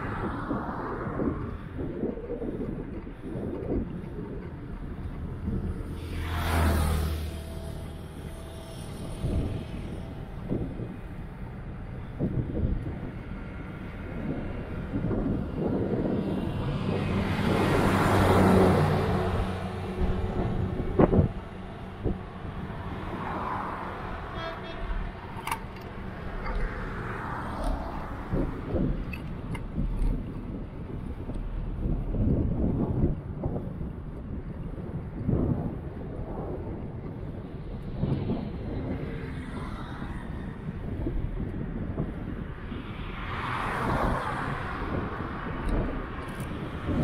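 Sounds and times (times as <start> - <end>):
road traffic passing: 0.0 - 47.0
wind rumbling on microphone: 0.0 - 47.0.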